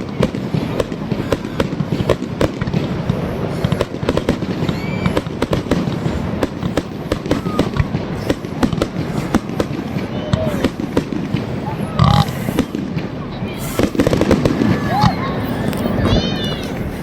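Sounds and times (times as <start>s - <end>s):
continuous rumble: 0.0s - 17.0s
fireworks bangs and crackles: 0.0s - 17.0s.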